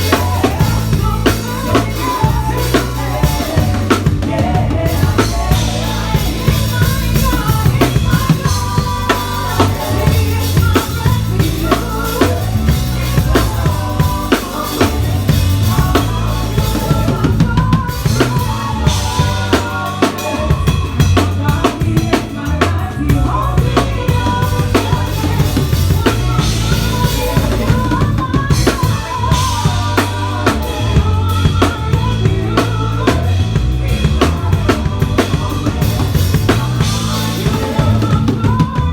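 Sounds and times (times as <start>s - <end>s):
bass line: 0.0s - 38.9s
drum kit beat: 0.0s - 38.9s
live band playing: 0.0s - 38.9s.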